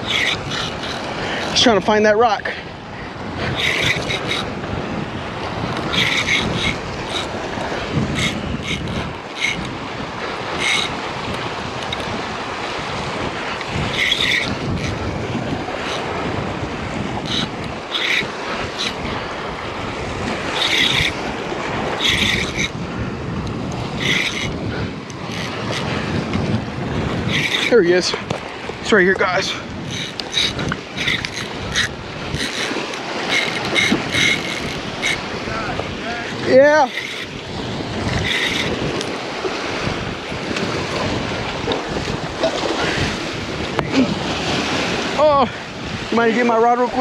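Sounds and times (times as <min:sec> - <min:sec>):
surf washing against rocks: 0:00.0 - 0:47.0
wind buffeting microphone: 0:00.0 - 0:47.0.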